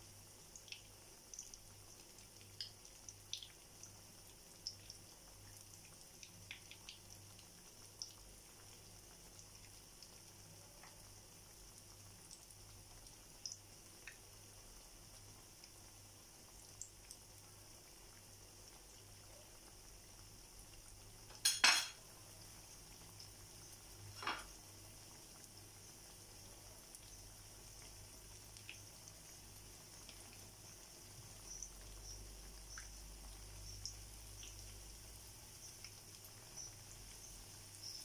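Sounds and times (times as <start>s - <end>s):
deep-frying sizzle and pops: 0.0s - 38.0s.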